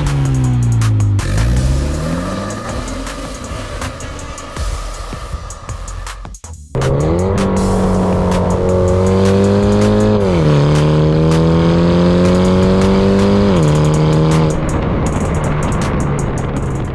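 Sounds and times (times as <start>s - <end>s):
car engine accelerating hard: 0.0s - 16.9s.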